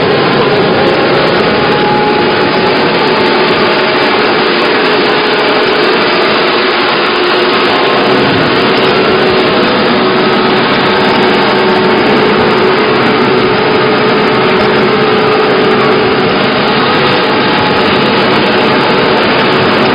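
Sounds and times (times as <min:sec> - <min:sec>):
log crusher machine running: 0:00.0 - 0:19.9.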